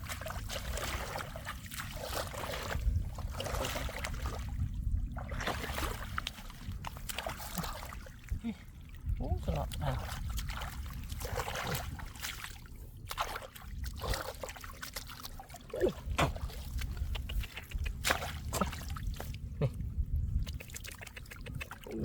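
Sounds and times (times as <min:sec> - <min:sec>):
floodwater splashing: 0:00.0 - 0:22.0.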